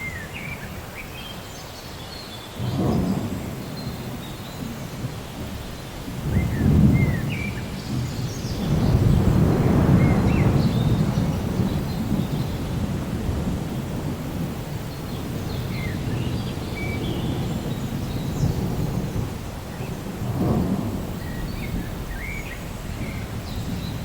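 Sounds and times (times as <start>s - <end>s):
rain falling: 0.0s - 24.0s
distant thunder rumbling: 2.6s - 24.0s.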